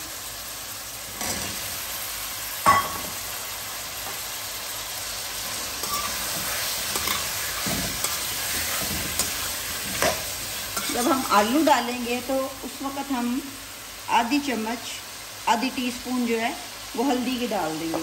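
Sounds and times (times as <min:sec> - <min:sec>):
potatoes sizzling in oil: 0:00.0 - 0:18.0.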